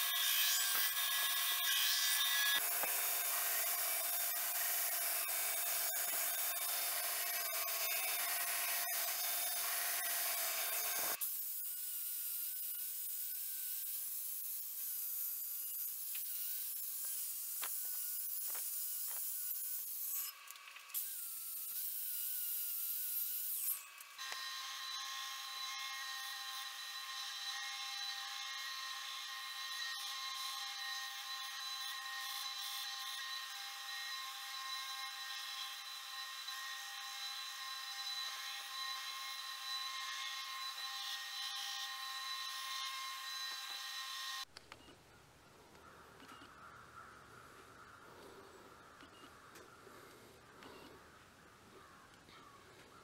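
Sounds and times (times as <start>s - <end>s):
belt grinder grinding steel: 0.0s - 44.5s.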